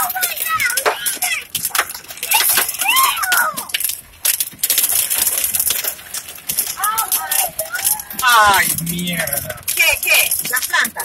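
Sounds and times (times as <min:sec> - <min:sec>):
hail pelting a car: 0:00.0 - 0:11.0.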